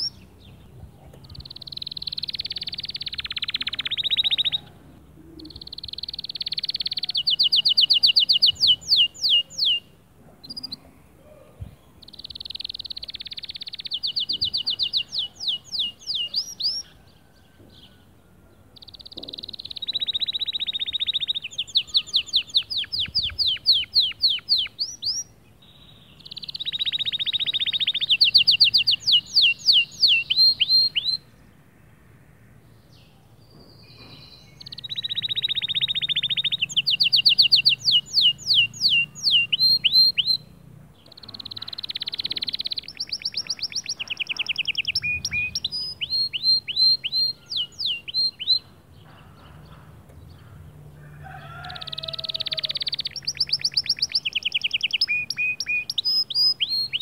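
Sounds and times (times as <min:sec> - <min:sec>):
canary singing: 0:00.0 - 0:31.6, 0:32.5 - 0:57.0.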